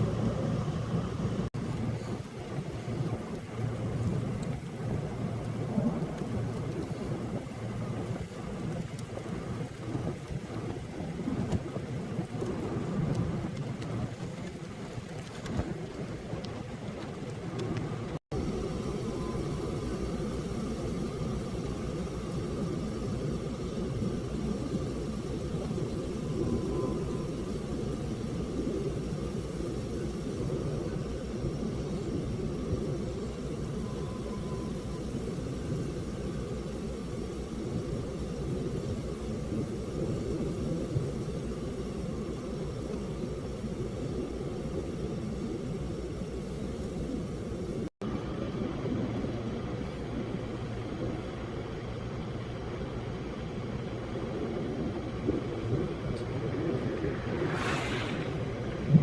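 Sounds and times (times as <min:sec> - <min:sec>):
rain: 0:00.0 - 0:59.0
vehicle road and engine rumble: 0:00.0 - 0:59.0
wind: 0:00.0 - 0:59.0.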